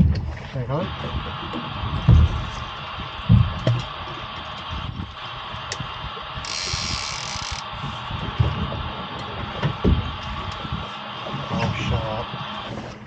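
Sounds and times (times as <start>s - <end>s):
outboard motor running: 0.0s - 13.0s
radio hiss burst: 0.4s - 13.0s.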